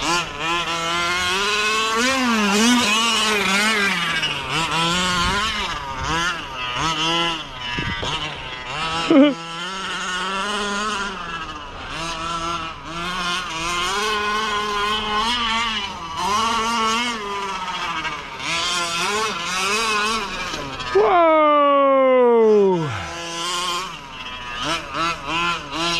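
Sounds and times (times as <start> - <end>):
rc car engine revving: 0.0 - 25.9.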